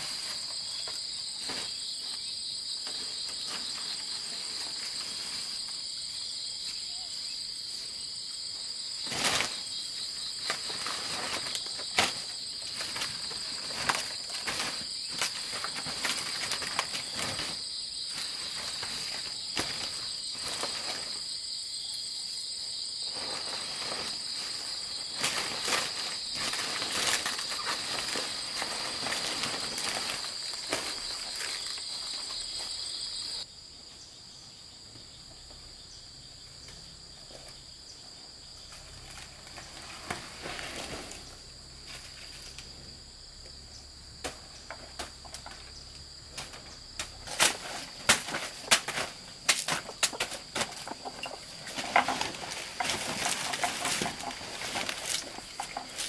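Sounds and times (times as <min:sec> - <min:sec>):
banana leaves rustling: 0:00.0 - 0:06.9, 0:08.1 - 0:21.4, 0:23.0 - 0:33.4, 0:38.6 - 0:42.9, 0:44.2 - 0:56.0
insects chirring: 0:00.0 - 0:56.0.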